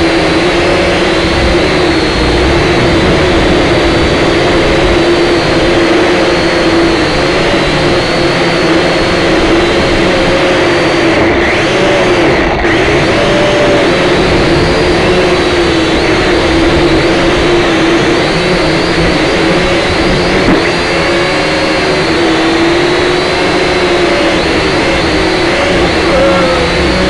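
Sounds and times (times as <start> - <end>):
toy drone motors whining: 0.0 - 27.0.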